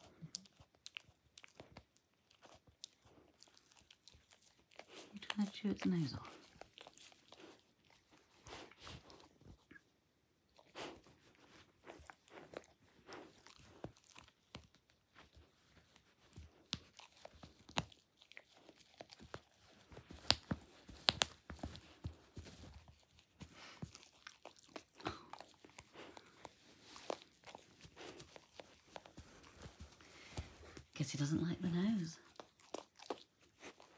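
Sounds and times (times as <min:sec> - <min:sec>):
dog chewing plush toy: 0:00.0 - 0:31.0, 0:31.6 - 0:33.9.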